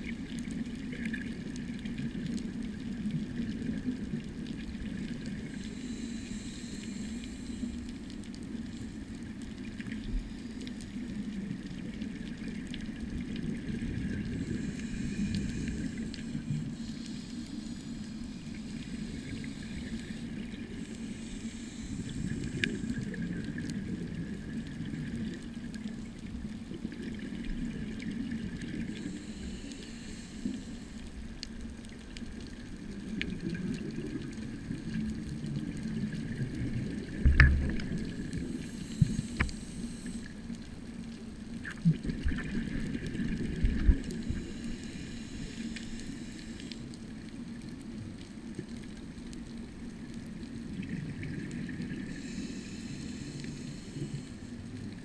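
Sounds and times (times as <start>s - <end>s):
bubbling hiss: 0.0s - 47.6s, 49.7s - 55.0s
muffled water low rumble: 0.0s - 55.0s.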